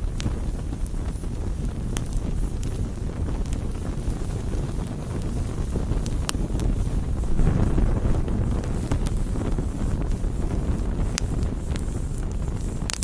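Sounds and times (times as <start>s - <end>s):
campfire flames rumbling: 0.0s - 13.0s
wood crackles: 0.0s - 13.0s.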